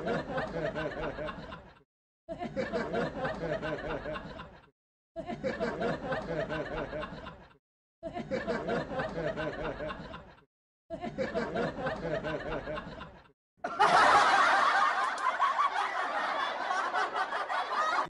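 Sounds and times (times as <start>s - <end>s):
people laughing and snickering: 0.0s - 18.0s.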